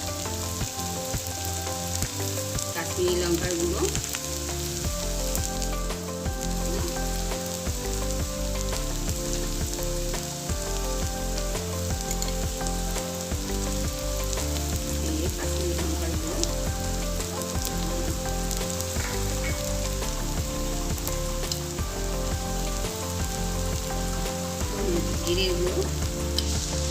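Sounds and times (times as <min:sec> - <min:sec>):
masala sizzling in hot oil: 0:00.0 - 0:26.9.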